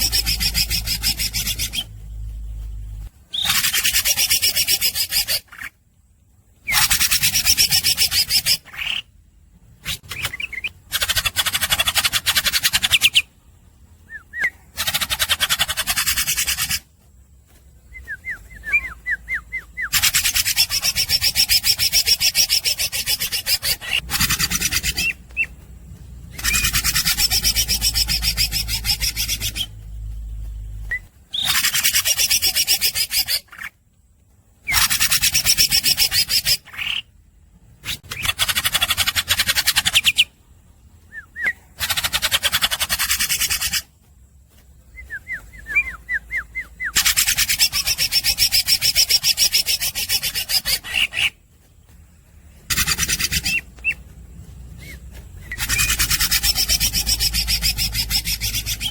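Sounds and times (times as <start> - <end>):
bird singing rasping chatter: 0.0 - 5.8, 6.5 - 33.9, 34.6 - 58.9
sharp bird chirps: 0.0 - 5.8, 6.6 - 33.8, 44.5 - 58.9.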